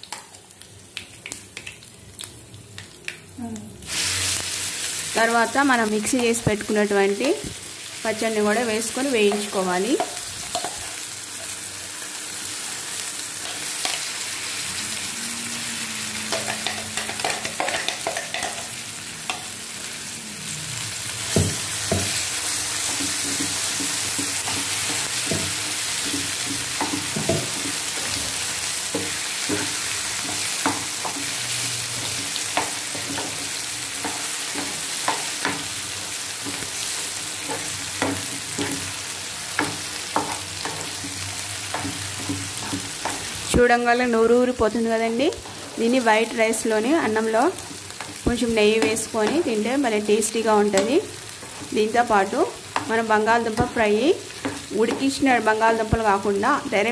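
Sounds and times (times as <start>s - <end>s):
paste sizzling in hot oil: 3.8s - 20.2s, 20.8s - 56.8s.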